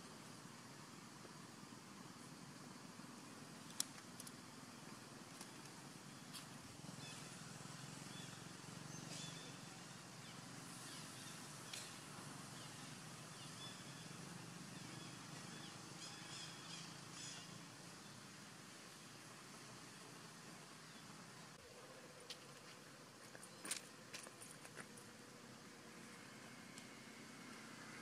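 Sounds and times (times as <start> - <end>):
low hum and hiss: 0.0 - 28.0.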